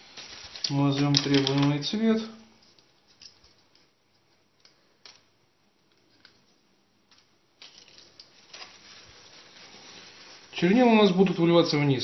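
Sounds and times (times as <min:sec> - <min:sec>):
soft rustle over paper and plastic: 0:00.0 - 0:12.0.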